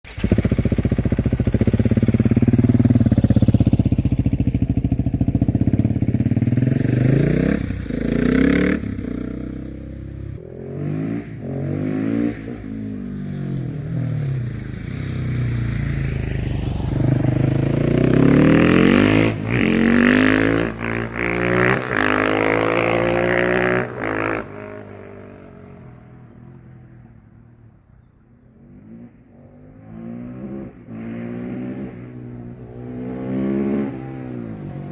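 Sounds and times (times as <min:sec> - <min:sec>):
motorcycle engine revving: 0:00.1 - 0:27.2, 0:28.5 - 0:34.9.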